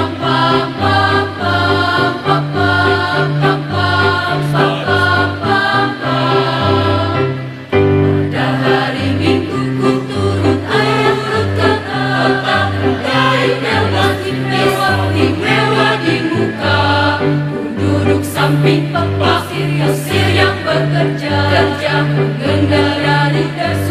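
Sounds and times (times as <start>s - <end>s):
mixed choir singing: 0.0s - 23.9s.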